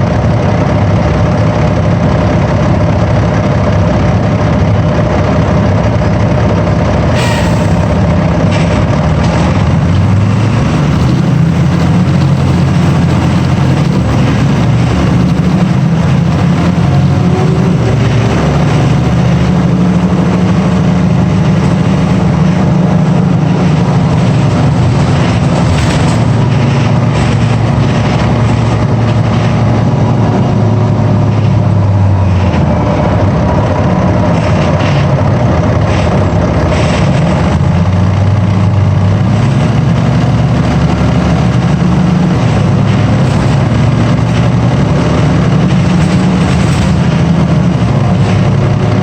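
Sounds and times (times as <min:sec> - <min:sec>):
bus engine droning: 0:00.0 - 0:49.0.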